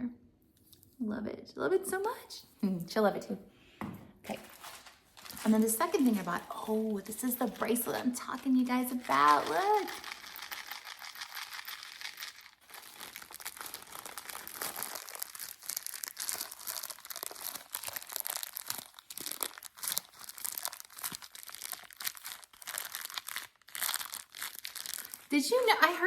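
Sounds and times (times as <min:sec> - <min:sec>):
packaging crinkling and rustling: 0:04.3 - 0:26.0.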